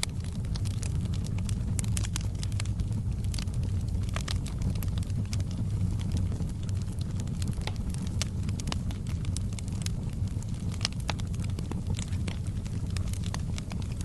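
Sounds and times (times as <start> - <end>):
fire crackling and popping: 0.0 - 14.0
fire flames rumbling: 0.0 - 14.0.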